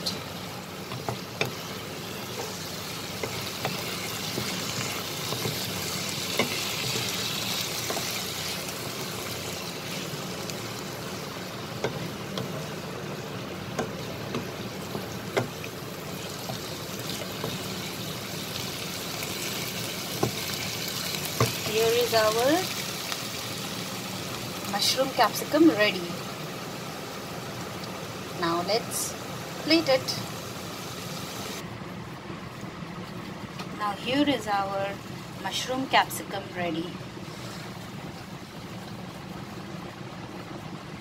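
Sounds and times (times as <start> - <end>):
vegetables sizzling in a pan: 0.0 - 31.6, 32.5 - 41.0.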